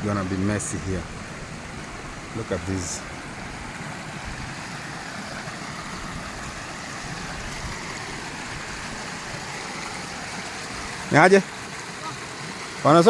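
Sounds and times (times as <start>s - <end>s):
fast-flowing stream rushing: 0.0s - 13.0s.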